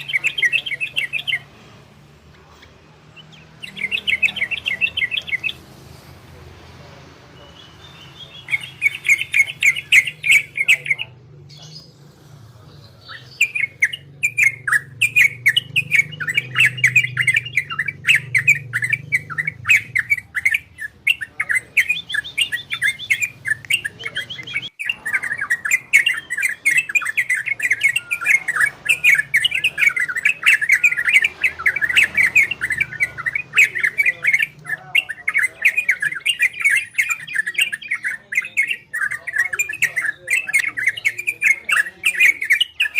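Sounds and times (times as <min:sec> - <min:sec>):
bulbul singing chattering notes: 0:00.0 - 0:06.4, 0:07.4 - 0:11.9, 0:13.0 - 0:42.9.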